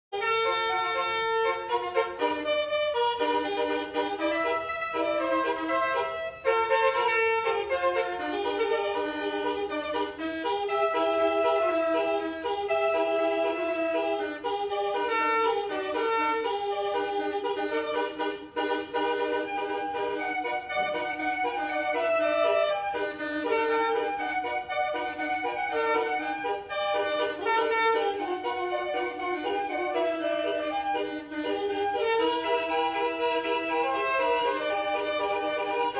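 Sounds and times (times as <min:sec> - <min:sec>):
multi-tone bus horn melody: 0:00.2 - 0:35.9.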